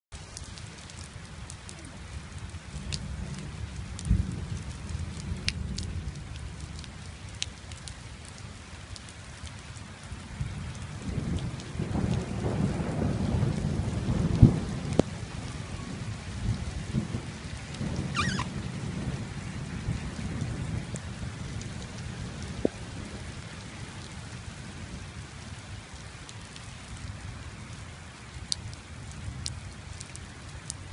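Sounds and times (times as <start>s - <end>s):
rain falling: 0.1s - 30.9s.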